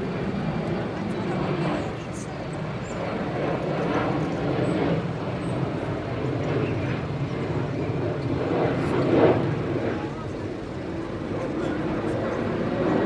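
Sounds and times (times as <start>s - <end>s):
aeroplane engine drone: 0.0s - 13.0s.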